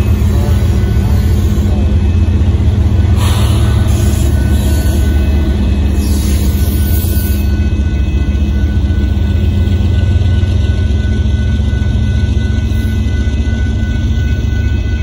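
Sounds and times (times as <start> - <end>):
freight train rumbling: 0.0 - 15.0
wheels on rail rushing: 0.0 - 15.0.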